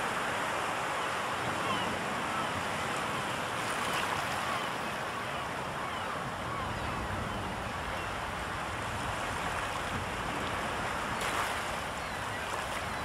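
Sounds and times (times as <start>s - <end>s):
waves washing onto shore: 0.0s - 13.0s.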